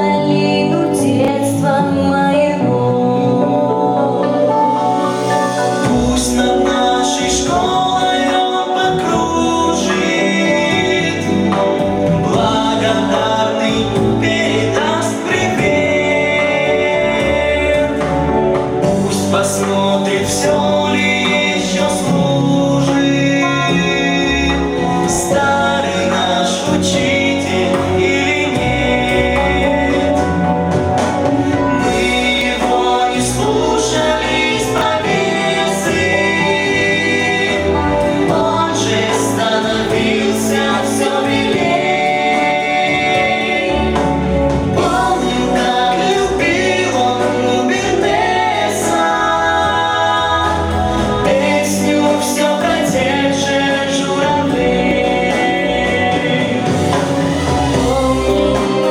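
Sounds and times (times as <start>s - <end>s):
instrumental accompaniment: 0.0s - 58.9s
vocal ensemble singing: 0.0s - 58.9s.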